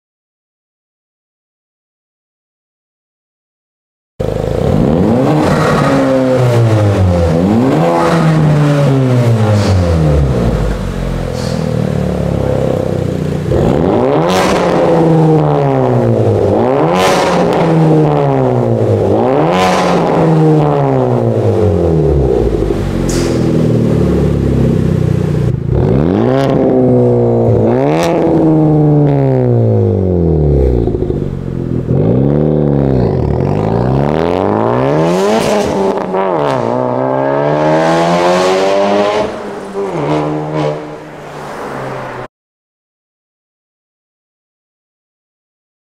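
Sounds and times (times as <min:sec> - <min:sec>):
car engine revving: 0:04.2 - 0:42.3.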